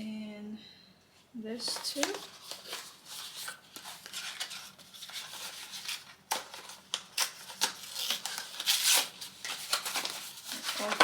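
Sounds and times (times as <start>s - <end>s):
paper and cardboard rustling: 1.6s - 11.0s.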